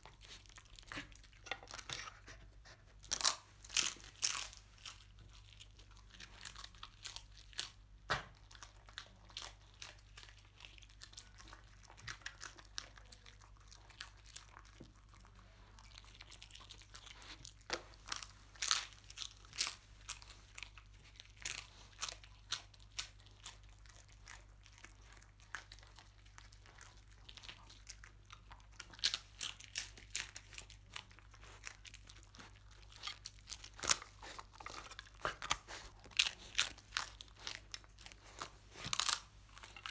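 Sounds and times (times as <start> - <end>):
dog crunching hard food: 3.1 - 15.1, 16.0 - 39.9.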